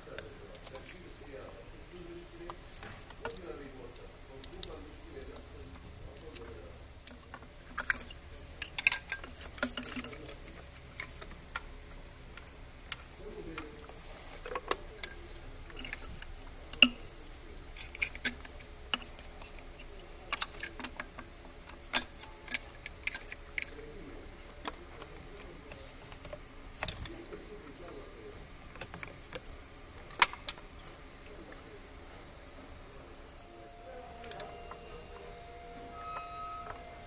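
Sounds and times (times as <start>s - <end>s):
hands handling engine parts: 0.0s - 35.4s.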